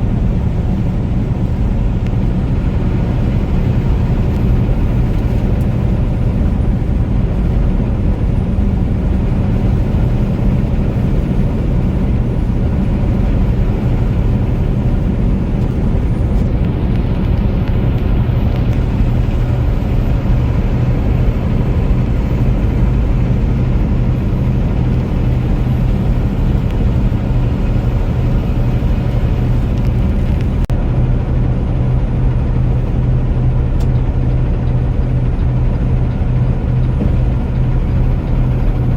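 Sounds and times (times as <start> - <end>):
vehicle engine and road drone: 0.0 - 38.9.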